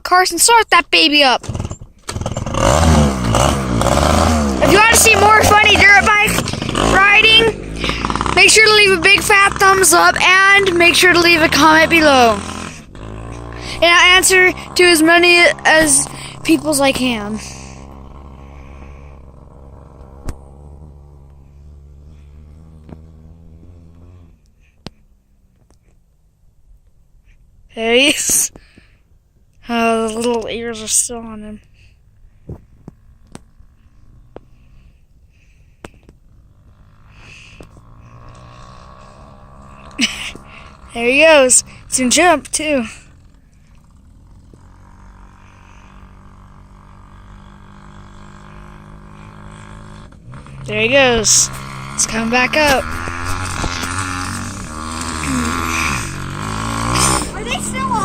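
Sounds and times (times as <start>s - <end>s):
dirt bike engine running: 1.1s - 24.9s, 29.6s - 58.0s.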